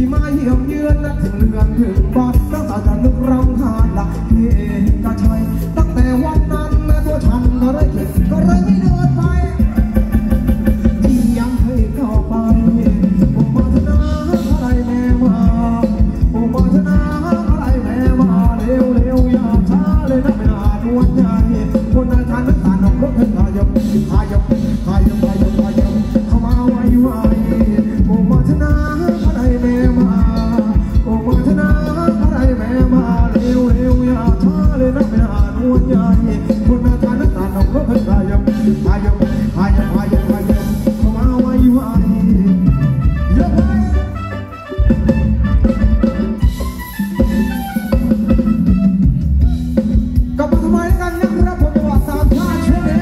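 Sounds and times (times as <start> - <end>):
person singing: 0.0 - 44.9, 47.2 - 53.0
live band dance music: 0.0 - 53.0.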